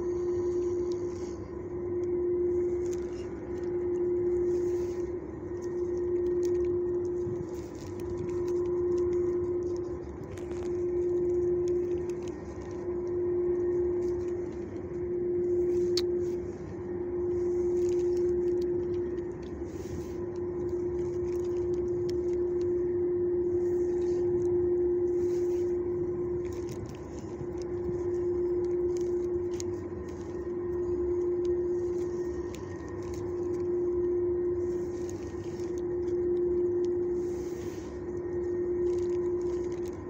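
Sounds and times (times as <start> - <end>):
faint soft rustles: 0.0 - 40.0
steady mechanical hum: 0.0 - 40.0.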